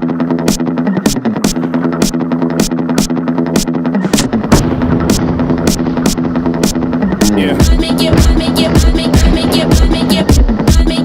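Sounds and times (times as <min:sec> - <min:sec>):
hi-hat beat: 0:00.0 - 0:11.0
bass drum pattern: 0:01.1 - 0:10.9.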